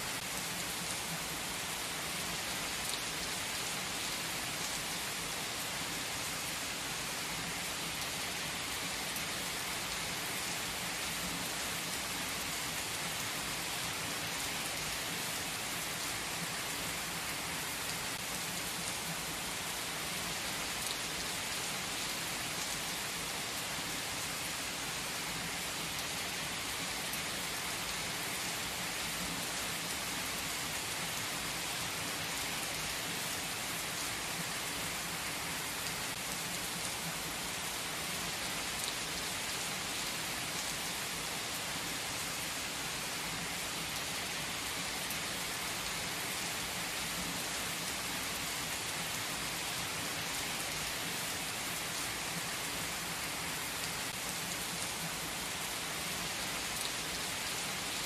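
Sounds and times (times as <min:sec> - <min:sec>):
heavy rain on asphalt: 0:00.0 - 0:58.0.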